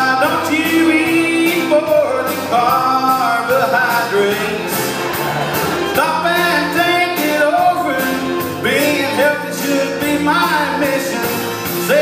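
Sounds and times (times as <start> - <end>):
man singing: 0.0 - 5.1, 5.8 - 12.0
country band playing: 0.0 - 12.0.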